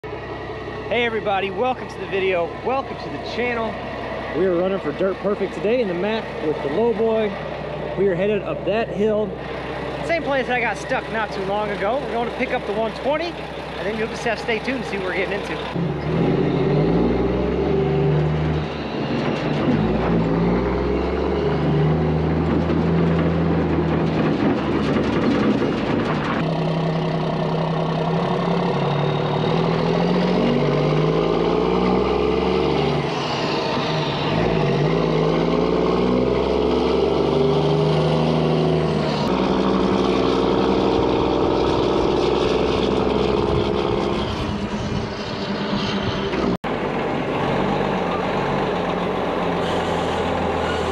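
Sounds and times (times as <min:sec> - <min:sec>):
truck diesel engine revving: 0:00.0 - 0:50.9.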